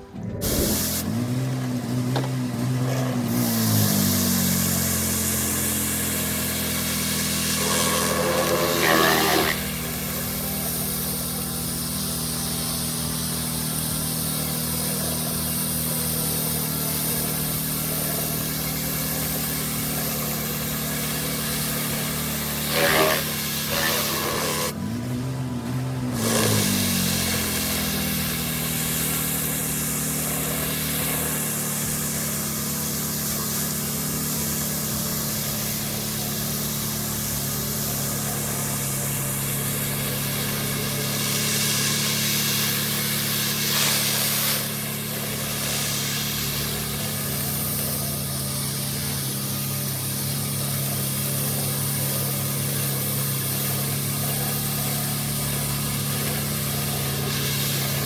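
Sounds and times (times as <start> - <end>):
pressure washer engine running: 0.0 - 58.0
high-pressure water spray hissing: 0.4 - 24.9, 26.0 - 58.0.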